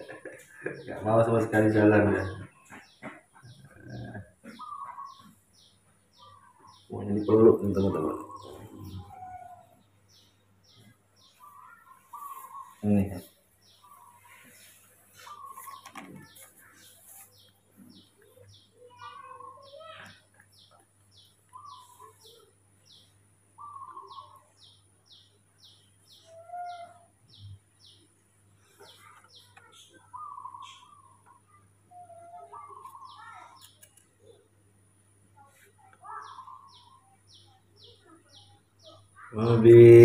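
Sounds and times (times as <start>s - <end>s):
lower bird calls: 1.7s - 28.0s, 28.6s - 34.5s.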